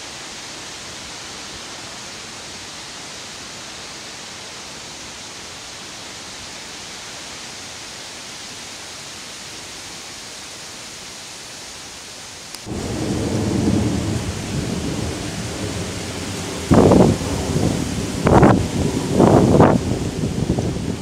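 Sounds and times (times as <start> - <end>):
outdoor ambience hiss: 0.0 - 21.0.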